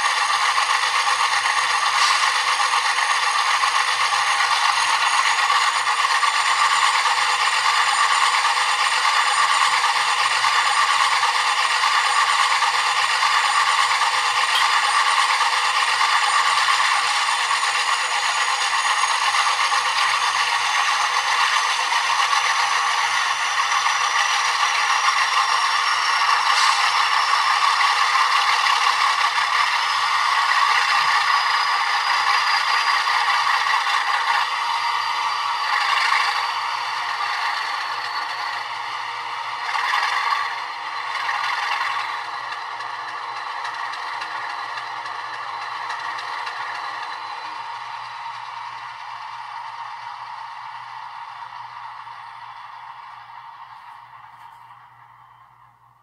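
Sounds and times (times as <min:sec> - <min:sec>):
faint high whine: 0:00.0 - 0:56.0.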